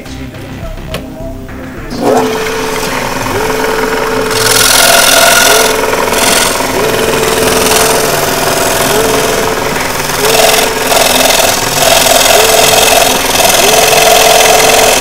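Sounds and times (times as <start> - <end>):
scroll saw cutting wood: 1.9 - 15.0.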